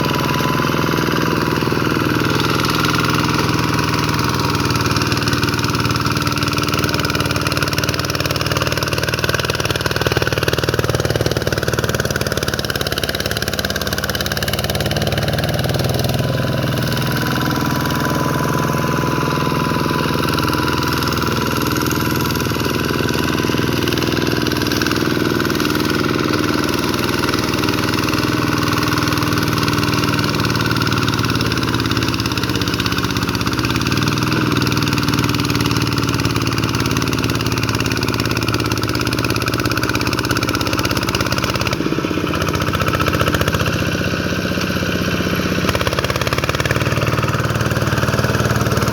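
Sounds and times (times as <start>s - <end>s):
hand tractor diesel engine running: 0.0s - 48.9s.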